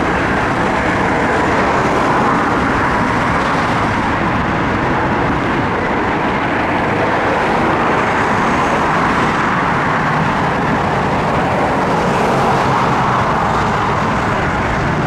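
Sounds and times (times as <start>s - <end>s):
vehicle rumble and road noise: 0.0s - 15.0s.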